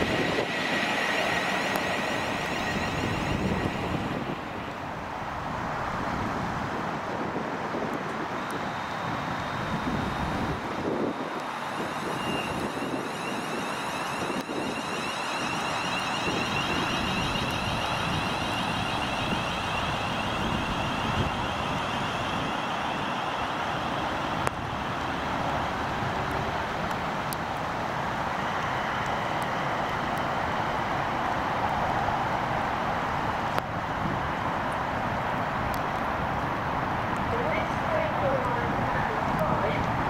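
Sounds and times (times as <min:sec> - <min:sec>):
train wheels rushing: 0:00.0 - 0:40.0.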